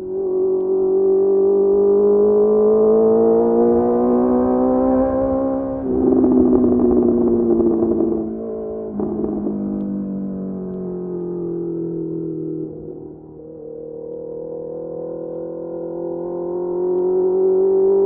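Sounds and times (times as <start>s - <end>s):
motorcycle engine revving and crackling: 0.0s - 18.0s.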